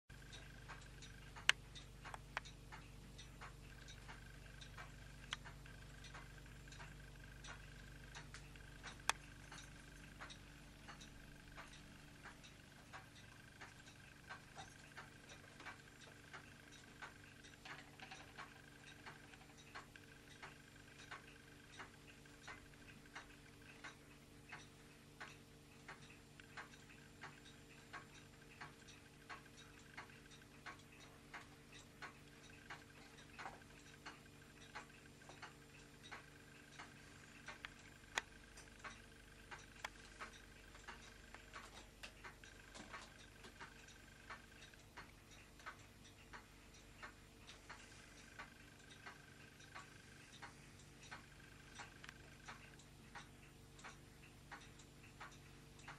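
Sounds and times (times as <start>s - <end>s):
clock ticking: 0.1s - 55.9s
low hum: 0.1s - 55.9s.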